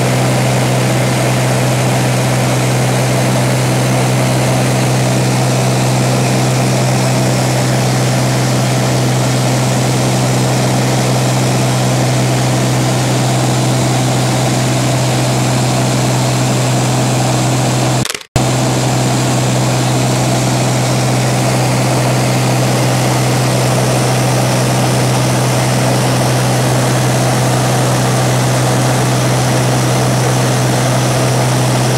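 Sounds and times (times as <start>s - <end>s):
propeller engine droning: 0.0s - 31.9s.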